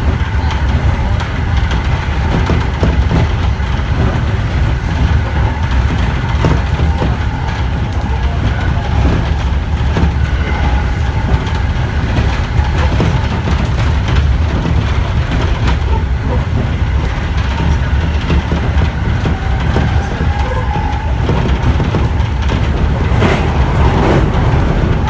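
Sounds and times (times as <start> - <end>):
train wheel clacks: 0.0 - 25.0
train wheels rumbling: 0.0 - 25.0.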